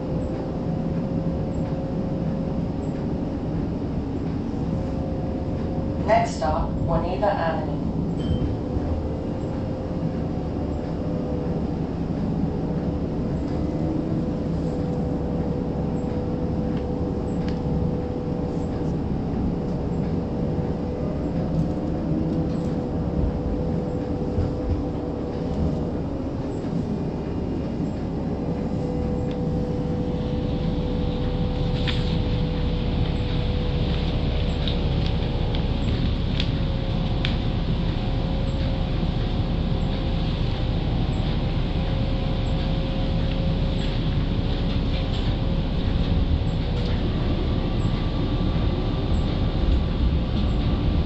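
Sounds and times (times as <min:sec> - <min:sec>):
wheels rumbling on rail: 0:00.0 - 0:51.0
motor hum: 0:07.8 - 0:51.0.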